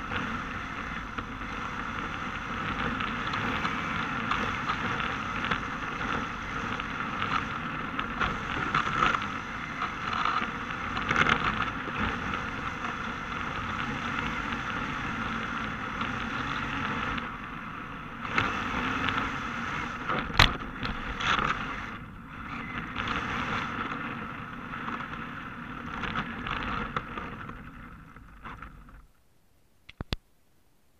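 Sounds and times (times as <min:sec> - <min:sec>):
rc car motor: 0:00.0 - 0:29.0
tyres sliding on asphalt: 0:00.0 - 0:29.1.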